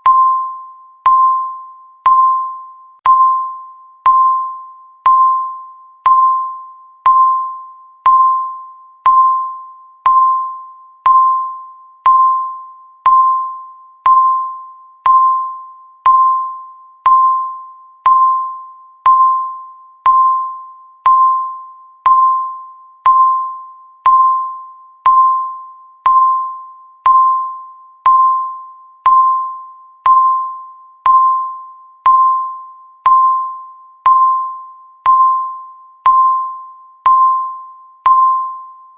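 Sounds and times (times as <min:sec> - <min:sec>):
bell-like timer beeps: 0:00.0 - 0:38.9.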